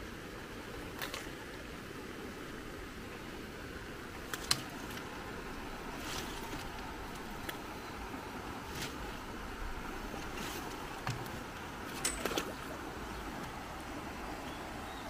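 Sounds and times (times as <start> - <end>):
rushing floodwater in creek: 0.0 - 15.0.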